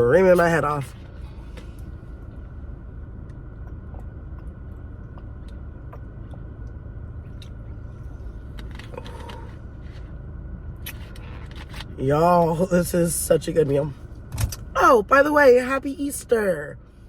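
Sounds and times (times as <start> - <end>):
low rumble: 0.0 - 15.6.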